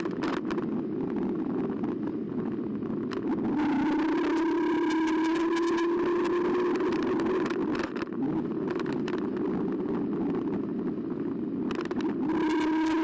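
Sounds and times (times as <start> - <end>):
electric bike motor whine: 0.0 - 8.7, 9.4 - 13.0.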